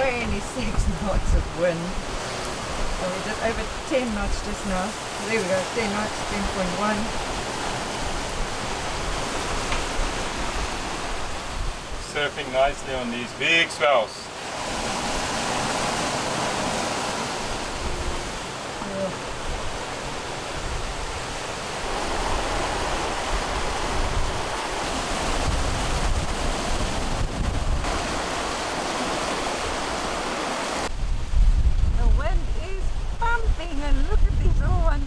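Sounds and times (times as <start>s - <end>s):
wind on microphone: 0.0s - 13.1s, 14.3s - 35.0s
water rushing and splashing: 0.0s - 34.9s.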